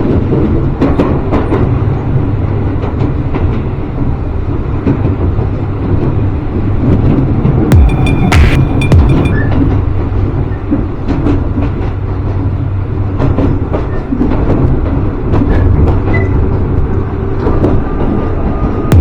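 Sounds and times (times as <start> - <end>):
train running along track: 0.0 - 7.7, 9.3 - 19.0.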